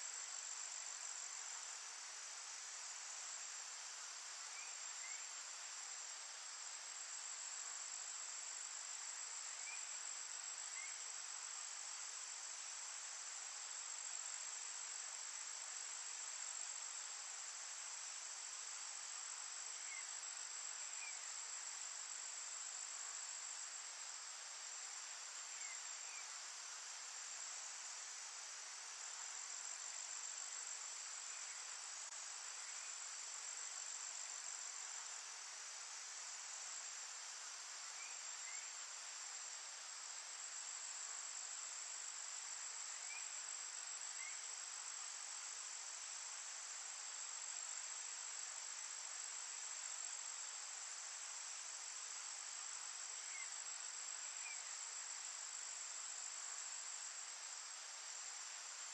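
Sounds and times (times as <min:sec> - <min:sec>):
insect chorus trilling: 0:00.0 - 0:58.9
soft hiss: 0:00.0 - 0:58.9.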